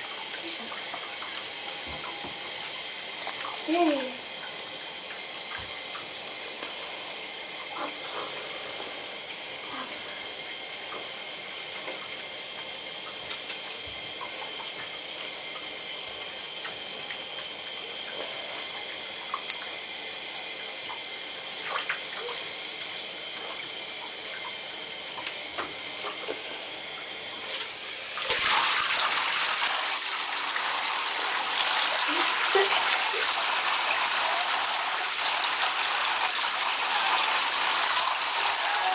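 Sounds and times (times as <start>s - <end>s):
water running into bathtub: 0.0s - 38.9s.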